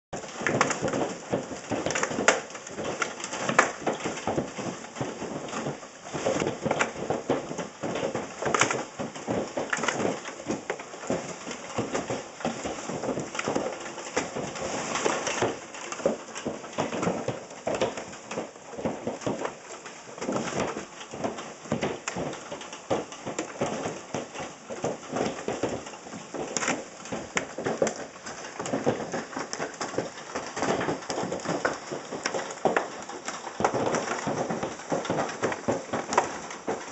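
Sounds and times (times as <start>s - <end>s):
hailstones clattering: 0.2s - 36.9s.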